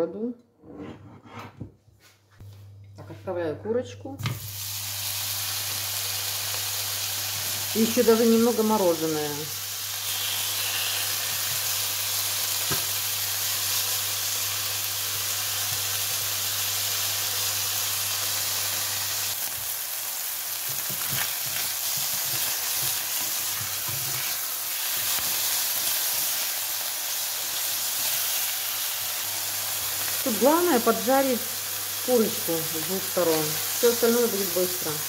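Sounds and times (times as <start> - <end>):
chicken sizzling in a frying pan: 4.2 - 35.0.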